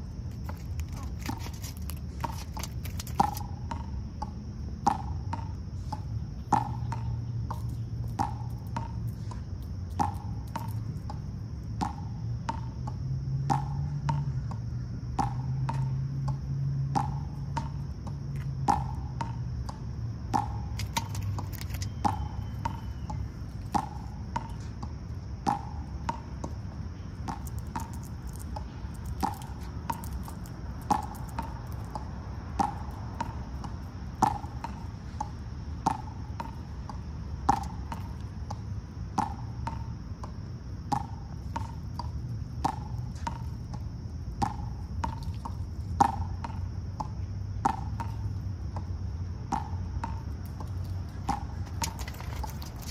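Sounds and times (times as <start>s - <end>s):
steady high buzz: 0.0s - 52.9s.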